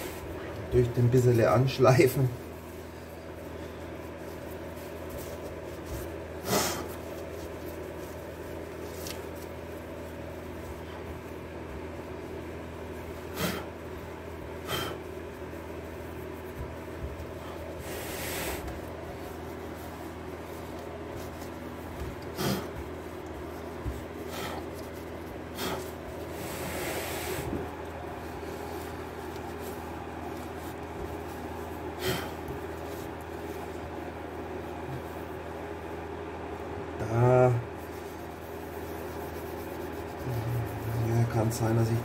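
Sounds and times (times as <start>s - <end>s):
cloth wiping metal wheel: 0.0s - 42.0s
steady low hum: 0.0s - 42.0s.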